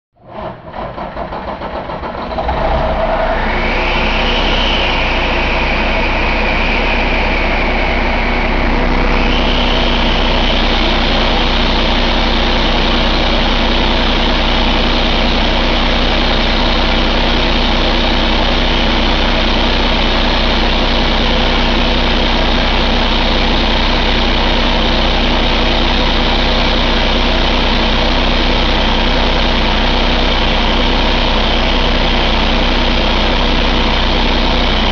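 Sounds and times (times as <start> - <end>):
diesel engine idling: 0.2 - 34.9
high whine: 2.4 - 34.9.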